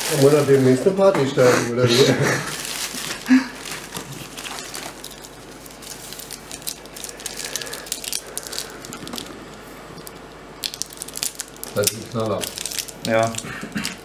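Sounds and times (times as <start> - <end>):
packaging crinkling and rustling: 0.0 - 1.2, 2.2 - 14.0.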